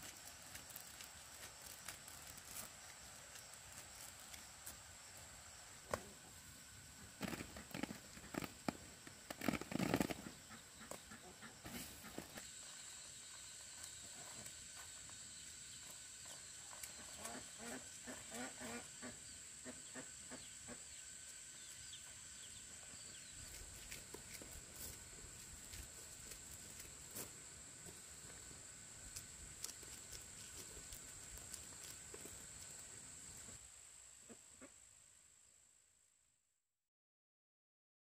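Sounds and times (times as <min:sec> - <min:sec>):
insects chirring: 0:00.0 - 0:35.6.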